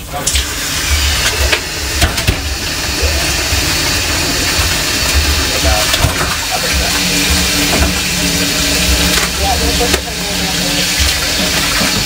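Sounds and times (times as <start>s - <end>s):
tap water splashing into sink: 0.0s - 12.0s.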